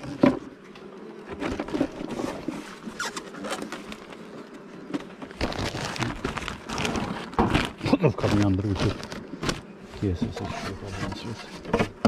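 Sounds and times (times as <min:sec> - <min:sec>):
hive tool scraping wood: 0:00.0 - 0:12.0.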